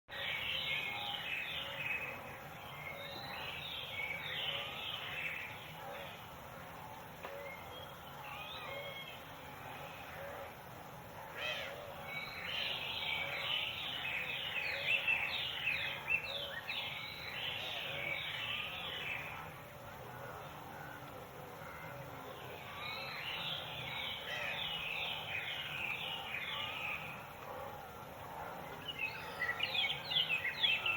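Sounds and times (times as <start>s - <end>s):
outdoor background hiss: 0.1s - 30.9s
songbirds chirping: 0.1s - 30.9s.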